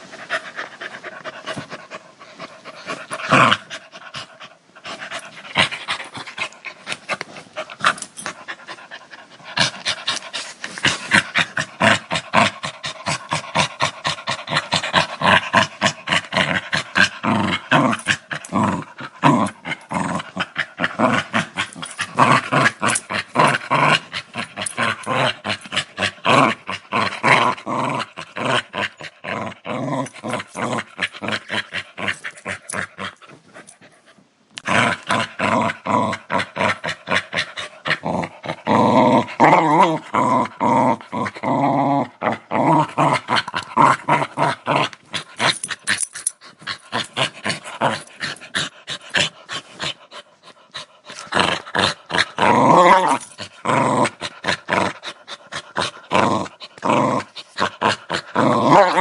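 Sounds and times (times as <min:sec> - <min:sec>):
dog growling: 0:01.0 - 0:07.0, 0:07.6 - 0:33.3, 0:34.6 - 0:59.0.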